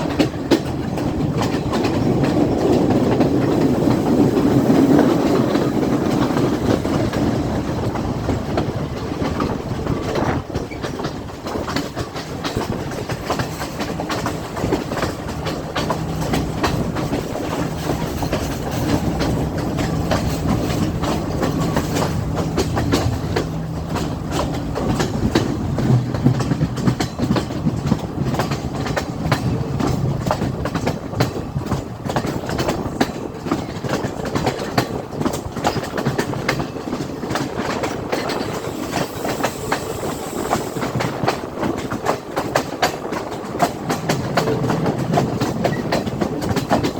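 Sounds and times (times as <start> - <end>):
train rumble: 0.0 - 46.9
train wheels clattering over rail joints: 0.0 - 46.9.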